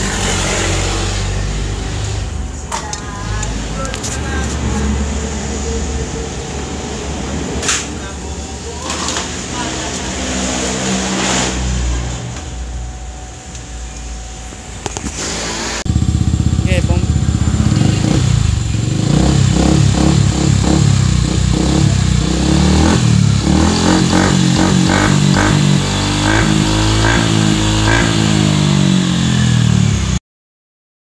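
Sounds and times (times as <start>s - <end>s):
scooter engine revving: 0.0s - 13.1s, 14.8s - 30.2s.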